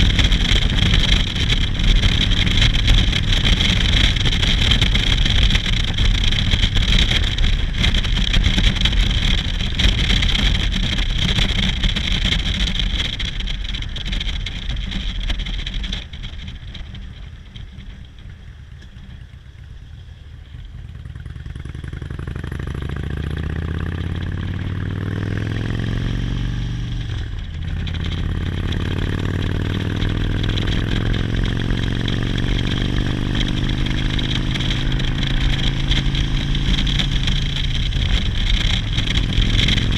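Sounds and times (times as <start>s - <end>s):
wind noise on microphone: 0.0s - 19.2s, 22.2s - 39.9s
motorcycle engine: 0.0s - 39.9s.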